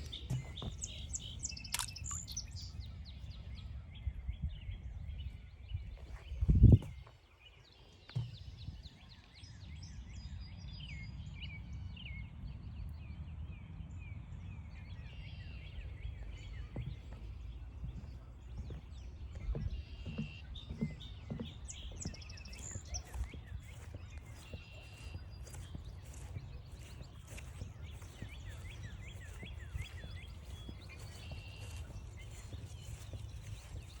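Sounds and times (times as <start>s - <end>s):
songbirds chirping and singing: 0.0s - 12.2s, 14.6s - 34.0s.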